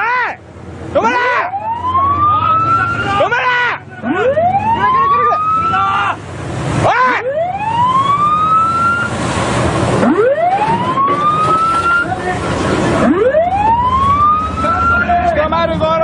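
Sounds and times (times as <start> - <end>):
engines rushing: 0.0 - 16.0
sea waves breaking: 0.4 - 15.3
ship siren rising wails: 0.9 - 15.5.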